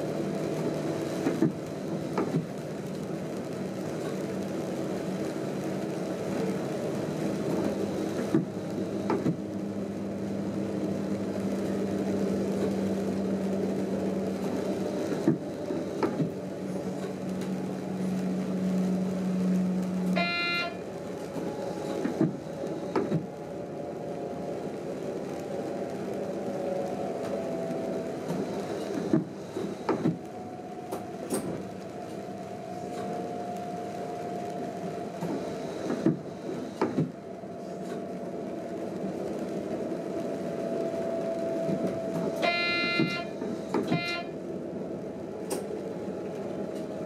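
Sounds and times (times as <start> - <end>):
train cab running noise: 0.0 - 47.0.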